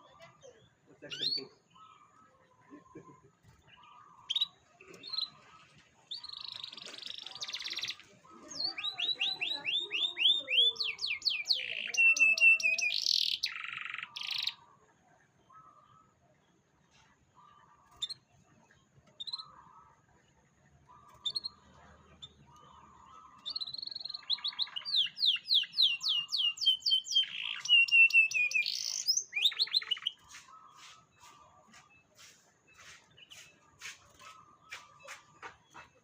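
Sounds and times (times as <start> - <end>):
canary singing trills: 3.4 - 14.8, 17.4 - 20.1, 20.7 - 36.0.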